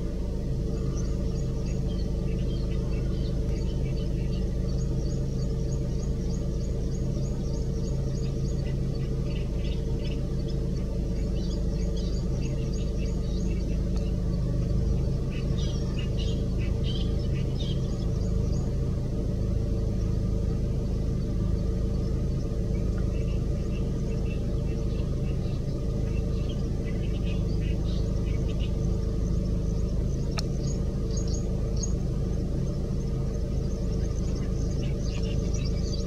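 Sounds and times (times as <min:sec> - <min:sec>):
low motor-like rumble: 0:00.0 - 0:36.0
small birds chirping: 0:00.0 - 0:36.0.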